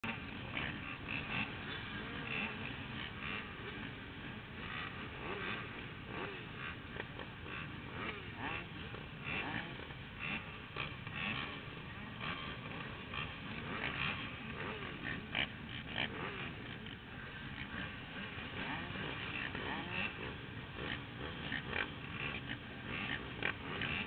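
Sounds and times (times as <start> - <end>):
motorcycle engines idling and revving: 0.0 - 24.0.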